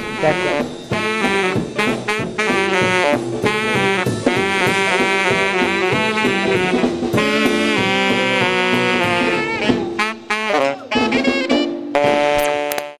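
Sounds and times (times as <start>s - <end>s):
rock and roll band playing: 0.0s - 12.9s
saxophone melody: 0.0s - 12.9s.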